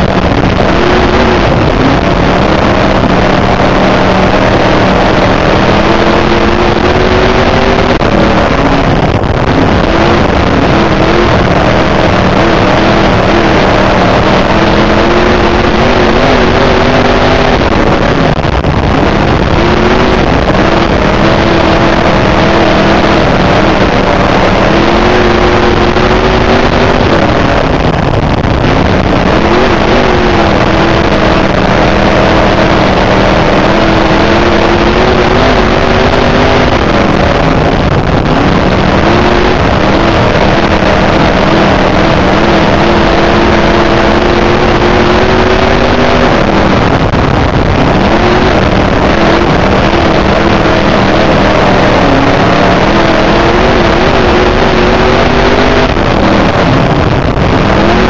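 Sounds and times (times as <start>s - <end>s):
race car engine under load: 0.0s - 58.0s.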